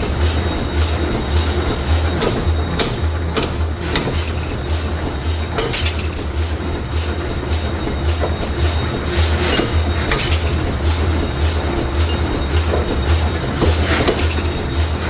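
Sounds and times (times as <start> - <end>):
machinery thumping rhythmically: 0.0 - 15.0
metal clanks and knocks: 2.1 - 15.0.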